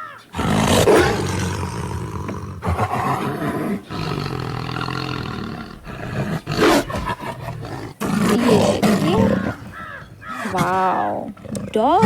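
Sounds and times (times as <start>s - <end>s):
deep animal roars: 0.0s - 12.0s.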